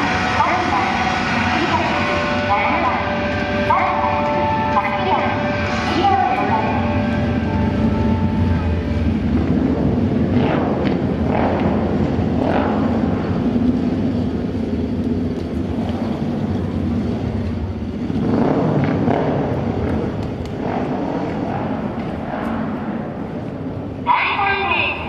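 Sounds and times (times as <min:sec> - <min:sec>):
racing motorcycles passing: 0:00.0 - 0:25.0
steady engine noise: 0:00.0 - 0:25.0.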